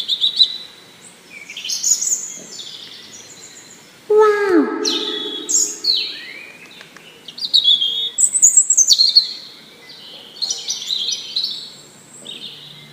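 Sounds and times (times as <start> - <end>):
songbirds warbling: 0.2 - 12.9.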